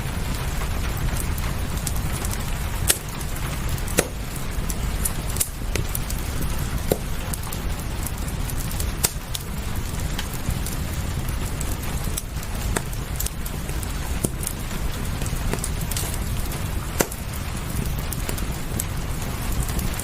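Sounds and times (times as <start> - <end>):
deep rumble: 0.0 - 20.0
fireplace crackling and popping: 0.0 - 20.0
rain rushing: 0.0 - 20.0.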